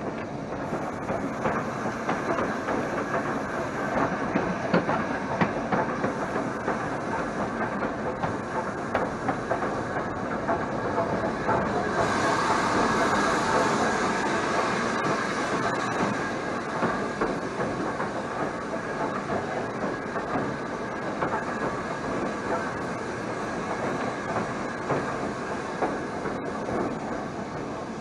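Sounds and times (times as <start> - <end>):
steam locomotive rolling slowly: 0.0 - 28.0.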